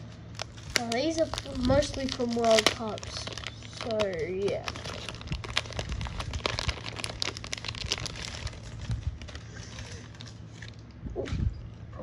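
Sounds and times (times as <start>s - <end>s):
plastic card sleeve crinkling: 0.1s - 11.0s.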